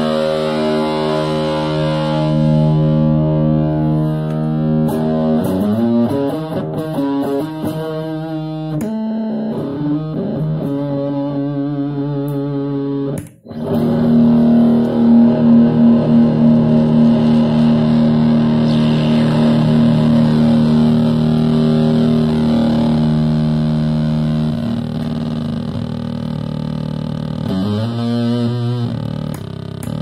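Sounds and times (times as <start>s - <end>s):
fuzzed electric guitar note: 0.0s - 30.0s.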